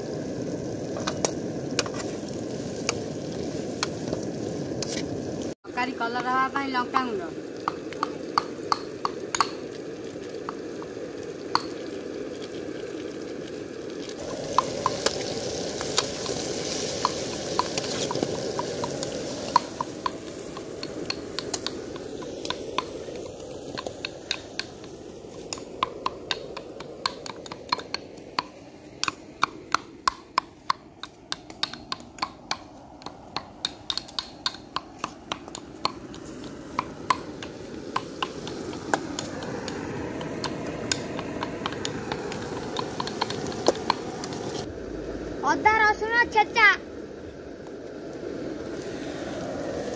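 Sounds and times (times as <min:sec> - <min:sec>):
onions sizzling in a pan: 0:00.0 - 0:49.9.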